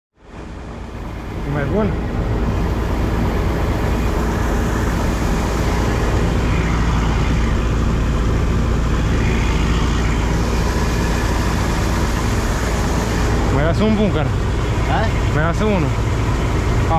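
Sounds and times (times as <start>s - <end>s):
combine harvester engine droning: 0.2s - 16.9s.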